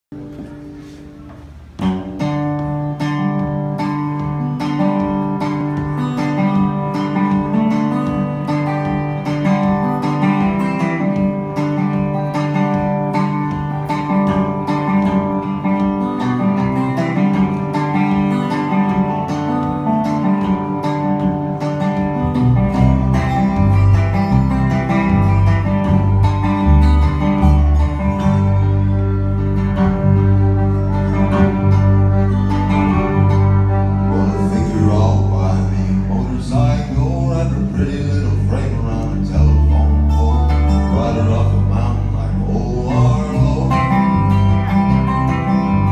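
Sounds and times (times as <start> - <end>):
electric bass notes: 0.0 - 45.9
picked acoustic guitar: 0.1 - 45.9
lap slide guitar: 0.2 - 45.9.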